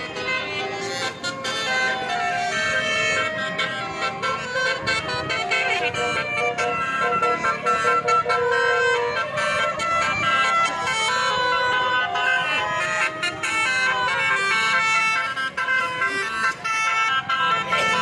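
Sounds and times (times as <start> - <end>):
bus horn playing a tune: 0.0 - 18.0.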